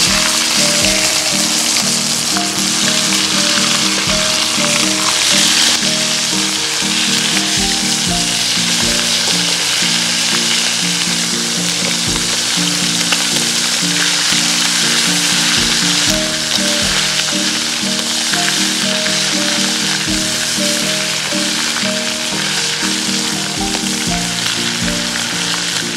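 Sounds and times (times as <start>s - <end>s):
background music: 0.0s - 25.9s
chicken sizzling in hot oil: 0.0s - 25.9s.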